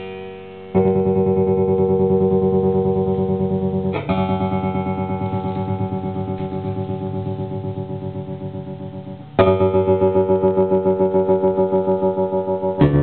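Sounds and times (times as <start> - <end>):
pulsing electric bass notes: 0.7 - 13.0.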